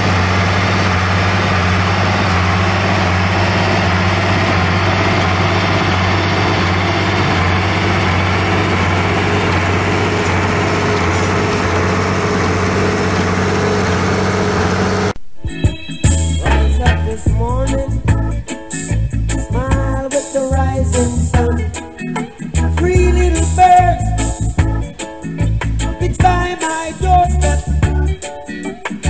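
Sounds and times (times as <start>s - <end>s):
tractor engine running: 0.0s - 15.2s, 16.2s - 28.2s.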